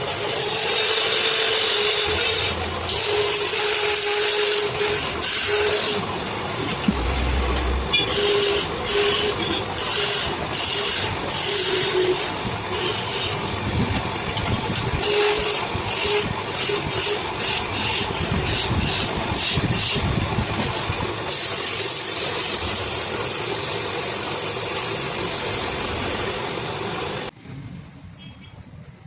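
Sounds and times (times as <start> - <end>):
wood lathe rumbling: 0.0 - 23.6
tool hissing on spinning wood: 0.0 - 26.8.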